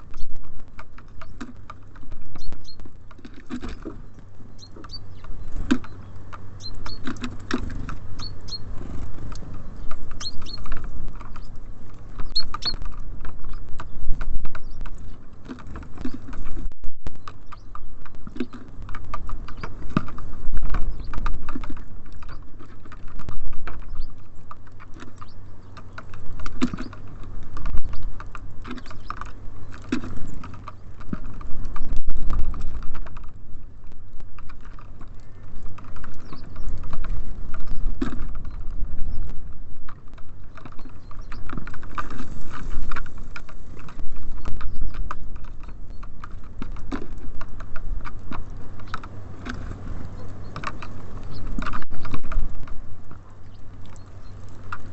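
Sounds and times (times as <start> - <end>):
birds pecking on feeder: 0.0 - 54.9.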